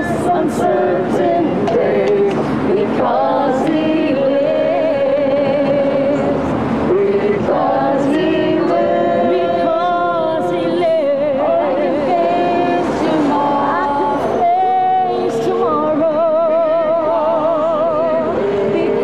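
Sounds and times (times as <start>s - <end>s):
voices singing long notes: 0.0s - 19.0s.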